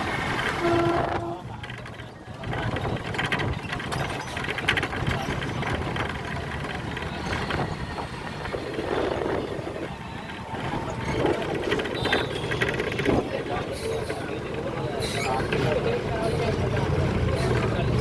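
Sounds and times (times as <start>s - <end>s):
small engine rattling: 1.2s - 18.0s.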